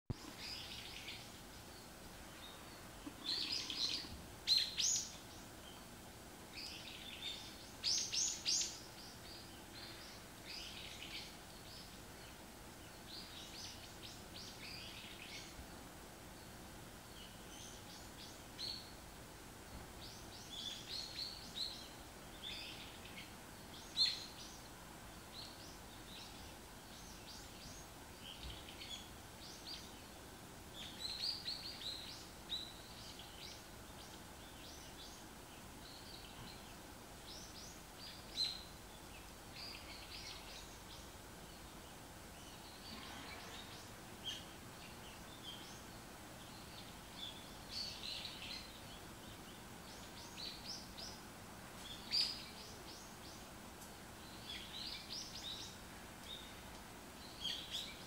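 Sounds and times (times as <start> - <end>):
bird chirping: 0.1 - 15.6, 16.3 - 19.0, 19.6 - 58.0
faint background hiss: 0.1 - 58.0.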